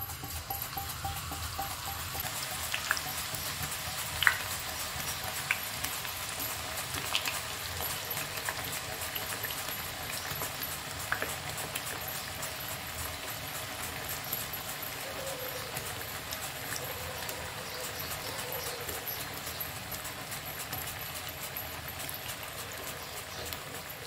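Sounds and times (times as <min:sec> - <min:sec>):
banana slices sizzling in oil: 0:00.0 - 0:24.0
oil popping and crackling: 0:00.0 - 0:24.0.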